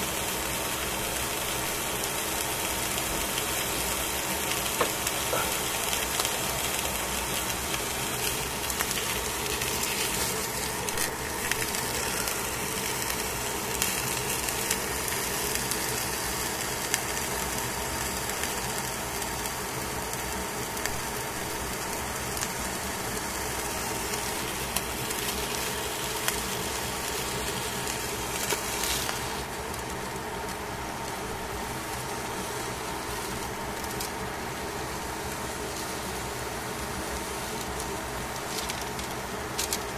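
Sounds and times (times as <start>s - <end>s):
fish sizzling in a pan: 0.0s - 39.9s.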